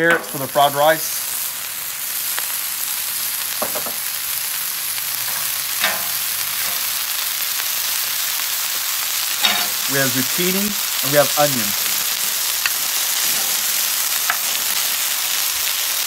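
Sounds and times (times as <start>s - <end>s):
vegetables sizzling on a griddle: 0.0s - 16.0s.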